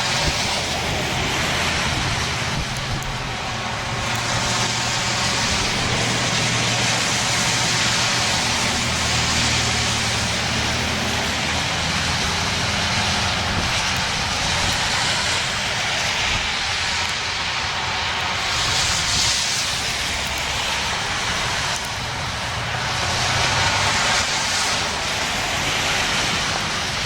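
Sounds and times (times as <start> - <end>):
blaring outdoor warning siren: 0.0 - 27.0.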